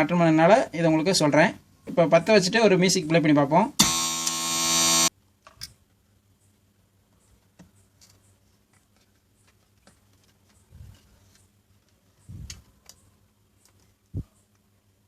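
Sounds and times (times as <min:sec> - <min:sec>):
faint mains hum from speaker: 0:00.0 - 0:15.0.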